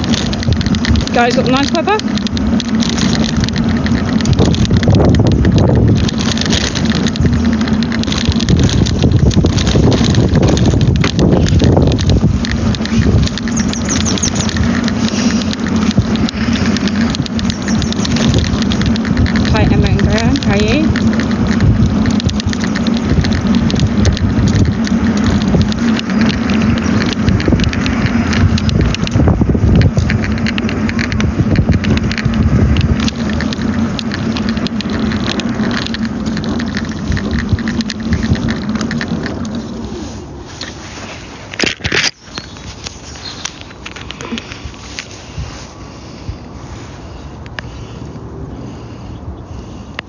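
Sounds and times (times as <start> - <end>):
rattles and clicks: 0.0 - 48.2
electric scooter drive humming: 0.0 - 50.0
wind buffeting microphone: 0.0 - 50.0.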